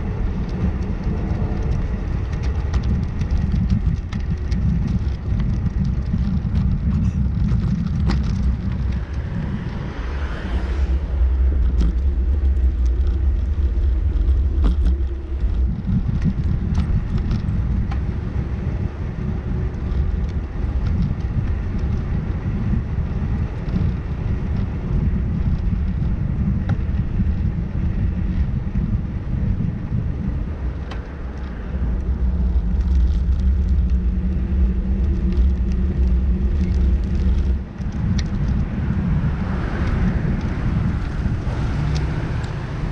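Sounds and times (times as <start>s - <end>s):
wind and road rumble: 0.0s - 42.9s.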